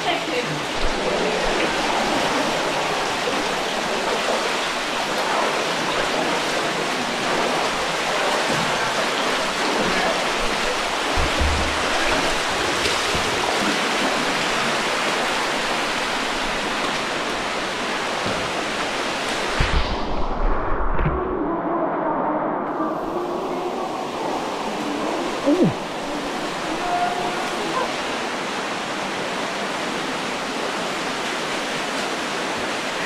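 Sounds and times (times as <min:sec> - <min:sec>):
muffled underwater water sound: 0:00.0 - 0:33.0
underground stream rushing: 0:00.0 - 0:33.0.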